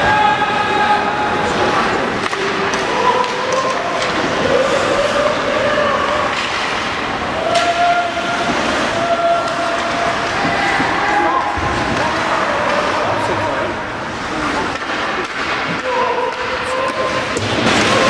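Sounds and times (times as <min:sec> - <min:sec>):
rink crowd noise: 0:00.0 - 0:18.0.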